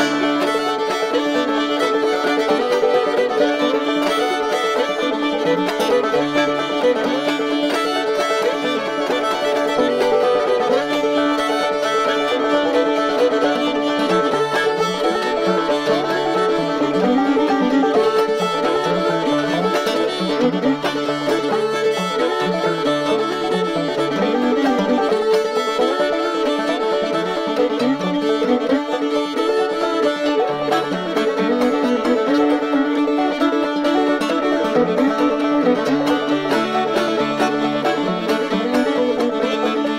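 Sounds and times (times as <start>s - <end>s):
banjo playing: 0.0s - 39.9s
fiddle melody: 0.0s - 39.9s.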